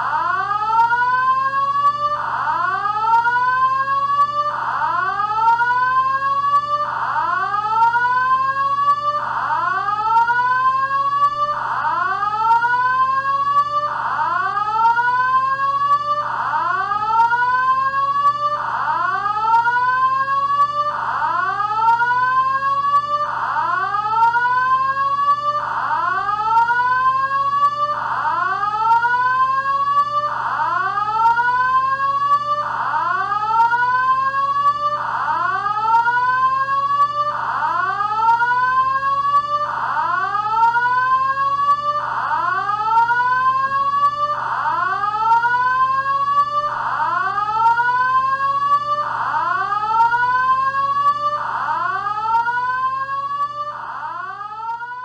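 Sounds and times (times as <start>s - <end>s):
rising whoop alarm tone: 0.1s - 55.0s.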